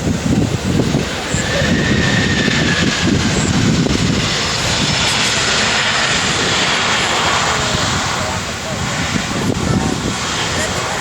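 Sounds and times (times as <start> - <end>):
jet airliner landing: 0.0 - 11.0.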